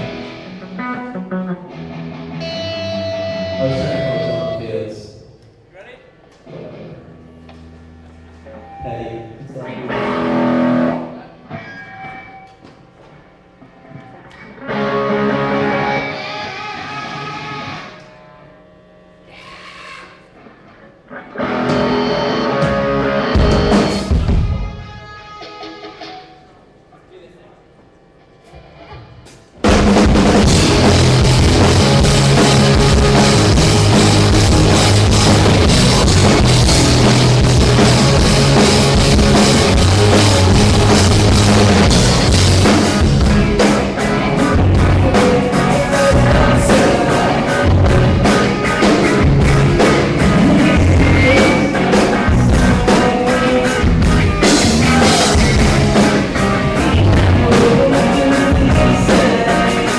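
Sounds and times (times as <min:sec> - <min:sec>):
rock music with drums and bass: 0:00.0 - 0:04.6, 0:09.9 - 0:12.6, 0:14.3 - 0:19.0, 0:20.4 - 0:26.4, 0:28.6 - 0:59.9.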